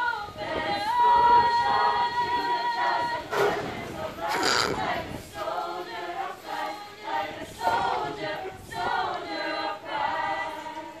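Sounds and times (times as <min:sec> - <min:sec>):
group singing: 0:00.0 - 0:11.0.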